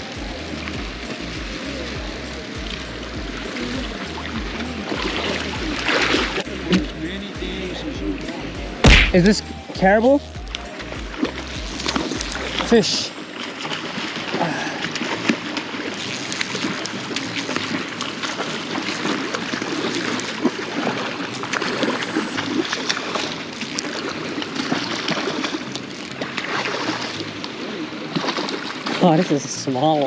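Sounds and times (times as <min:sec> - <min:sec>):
river water running: 0:00.0 - 0:30.0
water splashing: 0:00.0 - 0:30.0.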